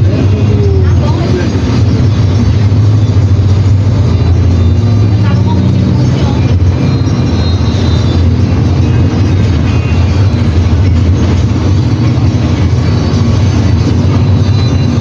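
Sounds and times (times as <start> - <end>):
bus diesel engine rumbling: 0.0 - 15.0.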